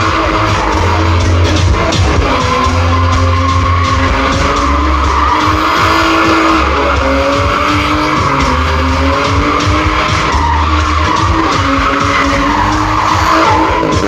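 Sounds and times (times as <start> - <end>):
car engine at high revs: 0.0 - 14.0
tyres skidding: 0.0 - 14.0.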